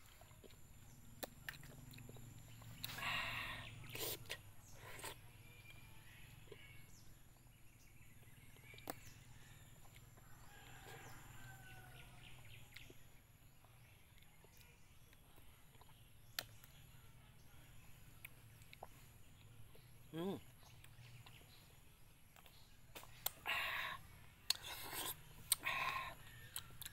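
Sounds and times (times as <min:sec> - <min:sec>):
faint bird chirps: 0:00.0 - 0:26.9.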